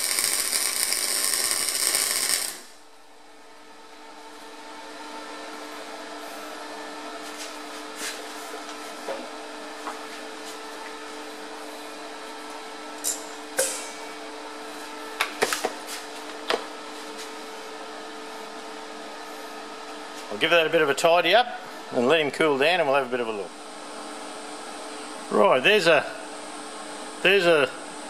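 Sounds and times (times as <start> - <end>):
workshop equipment humming: 0.0 - 28.0.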